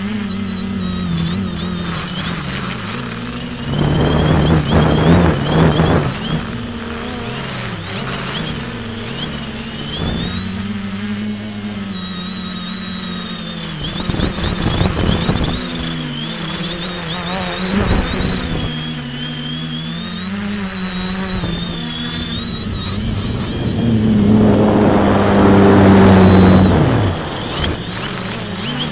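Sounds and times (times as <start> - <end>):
quadcopter propellers whining: 0.0 - 28.9.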